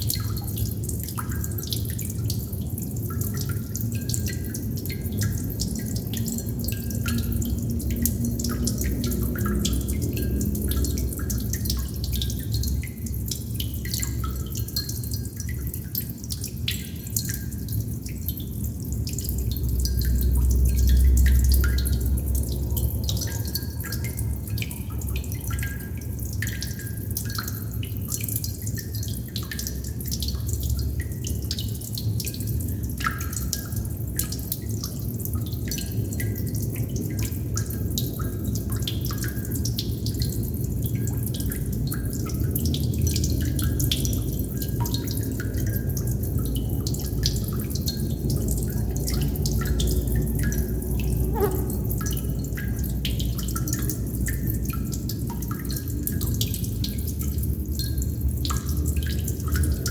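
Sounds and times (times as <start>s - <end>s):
water droplets dripping: 0.0s - 59.9s.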